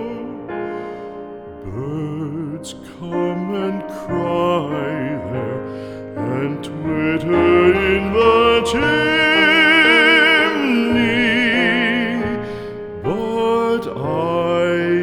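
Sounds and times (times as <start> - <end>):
person singing a slow ballad: 0.0 - 15.0
soft musical accompaniment: 0.0 - 15.0.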